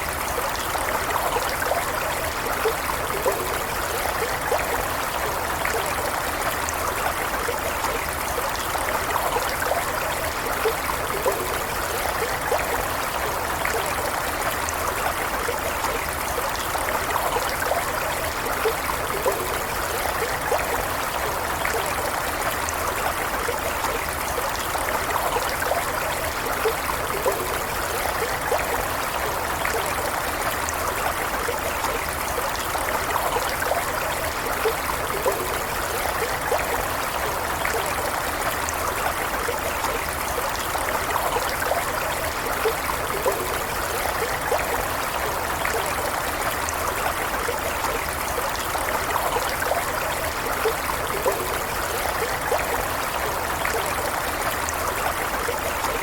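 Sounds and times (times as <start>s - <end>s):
stream of running water: 0.0s - 56.0s.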